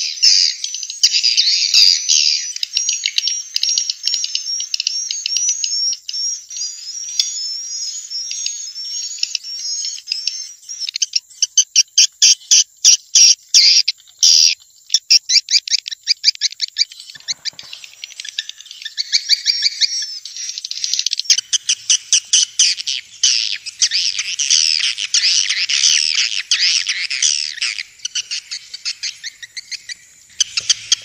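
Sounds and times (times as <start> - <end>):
dense overlapping bird twittering: 0.0 - 31.0.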